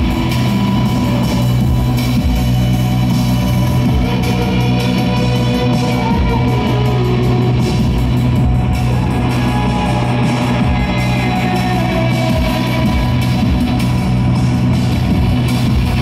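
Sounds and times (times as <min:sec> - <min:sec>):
live instrumental rock music: 0:00.0 - 0:16.0.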